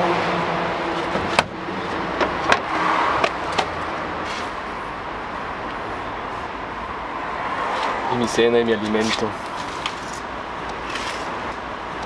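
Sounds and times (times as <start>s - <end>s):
traffic-like background hum: 0.0s - 12.0s.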